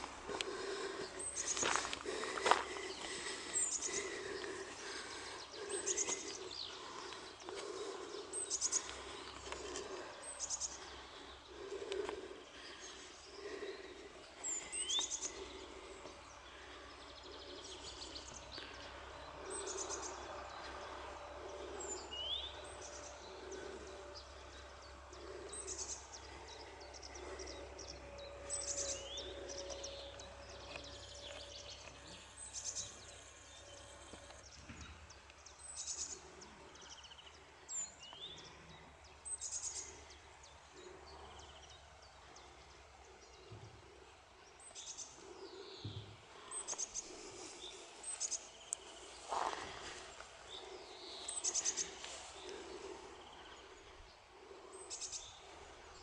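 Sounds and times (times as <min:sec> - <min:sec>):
faint steady hum: 0:00.0 - 0:56.0
songbirds chirping: 0:00.0 - 0:56.0.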